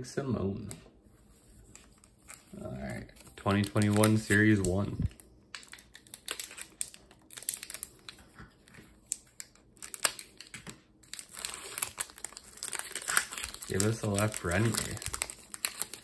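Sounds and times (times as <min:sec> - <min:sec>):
foil wrapper crinkling and tearing: 0:02.1 - 0:16.0.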